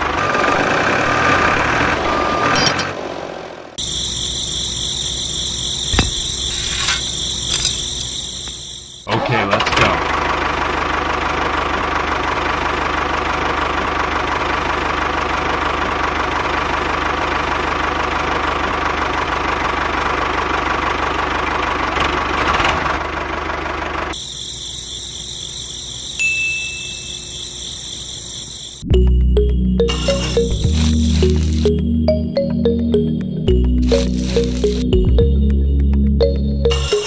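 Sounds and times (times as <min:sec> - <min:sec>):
tractor engine chugging: 0:03.8 - 0:08.9, 0:09.8 - 0:24.3, 0:26.0 - 0:37.0.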